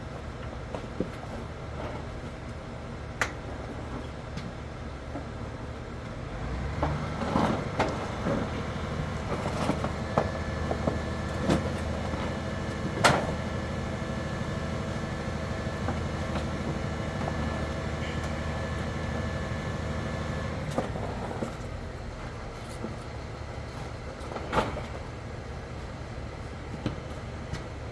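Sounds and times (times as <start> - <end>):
machine running steadily: 5.1 - 27.9.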